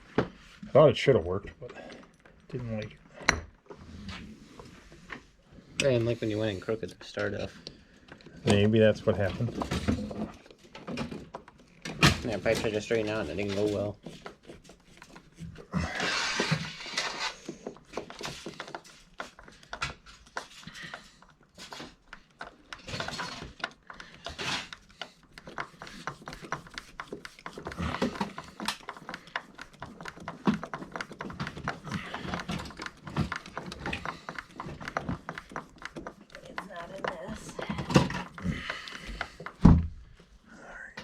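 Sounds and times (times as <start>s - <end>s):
tools clicking and knocking: 1.6s - 3.6s, 9.4s - 40.4s.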